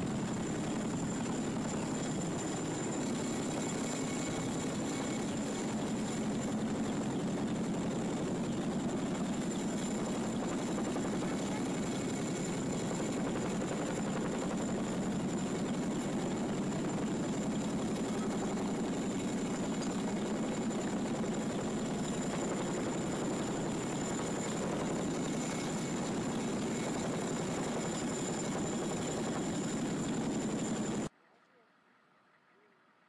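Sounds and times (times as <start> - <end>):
helicopter rotors beating: 0.0 - 31.1
high turbine whine: 0.0 - 31.1.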